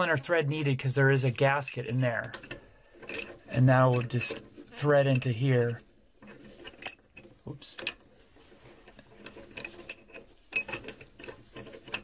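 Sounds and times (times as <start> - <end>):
metal fitting clicks and scrapes: 0.6 - 12.0.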